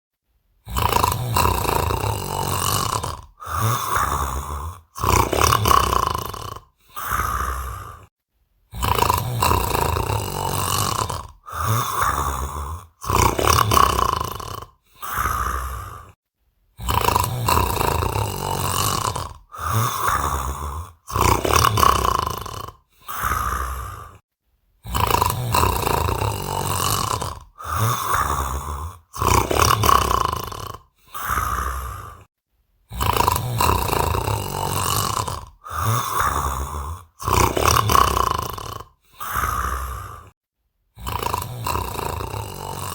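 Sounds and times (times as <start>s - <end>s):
man snoring loudly: 0.6s - 8.1s, 8.7s - 16.2s, 16.8s - 24.2s, 24.8s - 32.3s, 32.9s - 42.9s.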